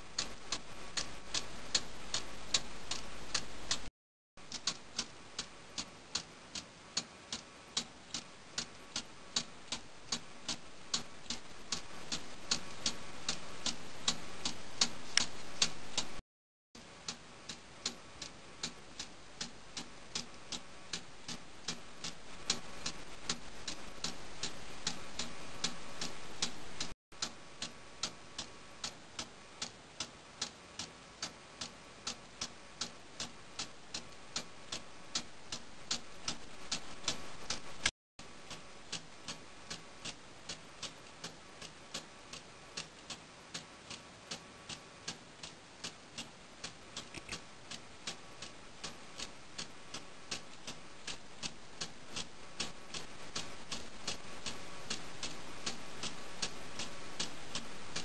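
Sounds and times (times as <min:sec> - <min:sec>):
clock ticking: 0:00.0 - 0:16.2, 0:16.8 - 0:58.0.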